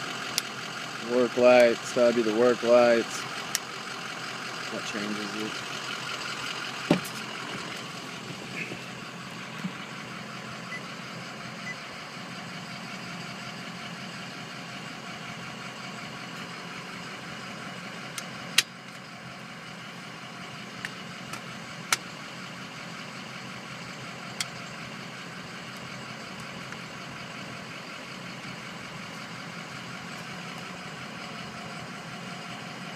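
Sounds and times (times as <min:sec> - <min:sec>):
diesel engine idling: 0:00.0 - 0:32.9.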